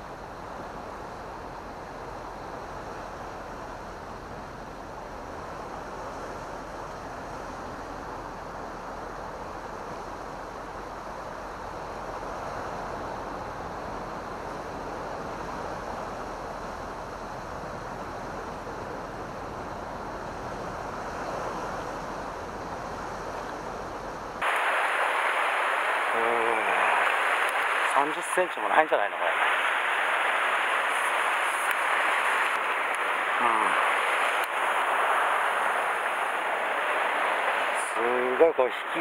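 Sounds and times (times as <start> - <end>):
surf washing over rocks: 0.0 - 39.0.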